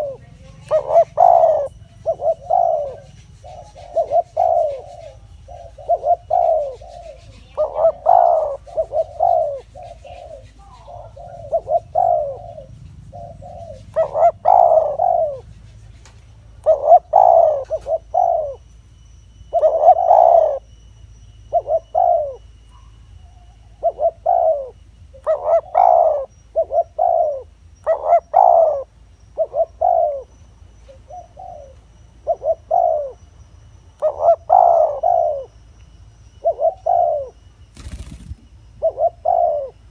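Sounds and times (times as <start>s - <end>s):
dove cooing: 0.0s - 18.6s, 19.5s - 20.7s, 21.5s - 33.3s, 34.0s - 35.6s, 36.4s - 39.9s.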